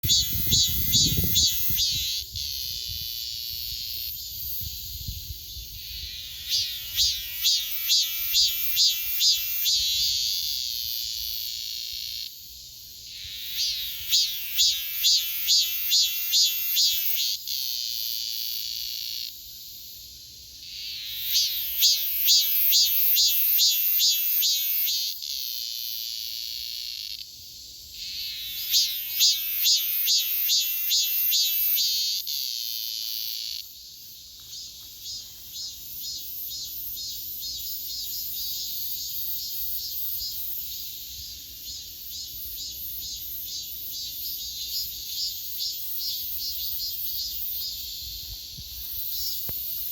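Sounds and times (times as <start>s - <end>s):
cicadas singing in pulsed phrases: 0.0s - 49.9s
insect chorus high buzz: 0.0s - 49.9s.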